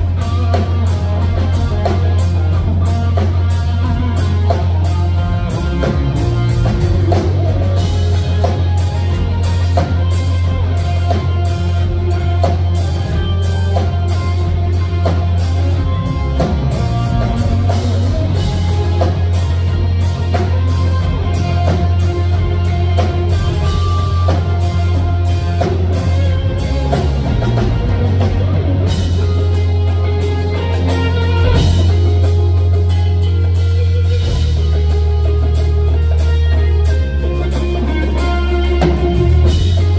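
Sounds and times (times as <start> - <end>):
bass guitar: 0.0 - 39.9
drum kit: 0.0 - 39.9
lead electric guitar: 0.0 - 39.9.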